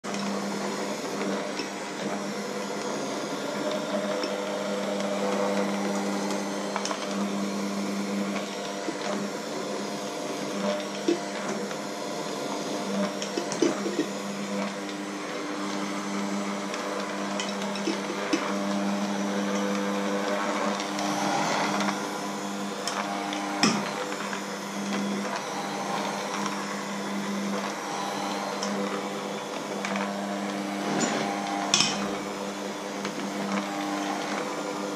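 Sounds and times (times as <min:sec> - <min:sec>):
electric hand mixer humming: 0:00.0 - 0:34.9.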